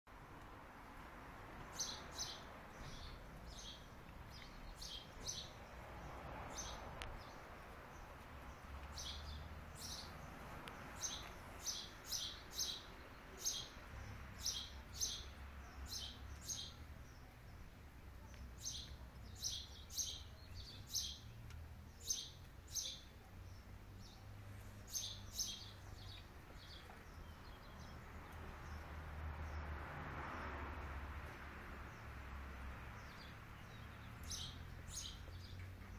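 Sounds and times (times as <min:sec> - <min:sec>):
small birds chirping: 0:01.6 - 0:35.9.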